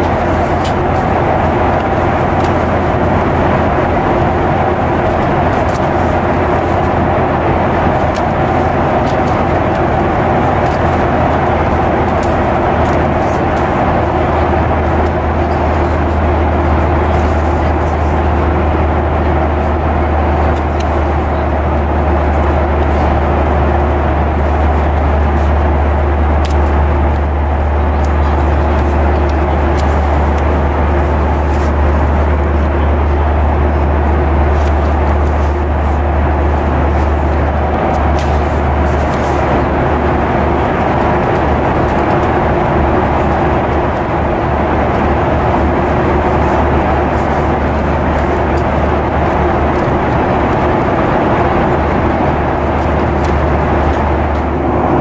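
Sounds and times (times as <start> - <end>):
paper rustling and crackling: 0.0 - 19.0, 21.9 - 54.6
airplane cabin drone: 0.0 - 55.0.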